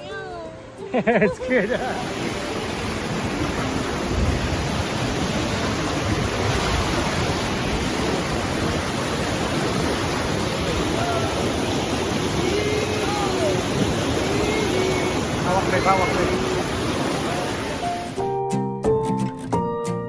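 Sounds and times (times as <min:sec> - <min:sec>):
rushing river whitewater: 0:01.2 - 0:18.2.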